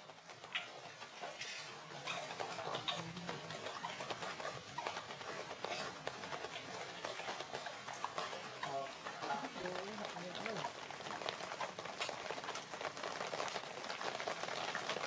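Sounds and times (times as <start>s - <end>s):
soft pattering and rustling: 0.0s - 15.0s.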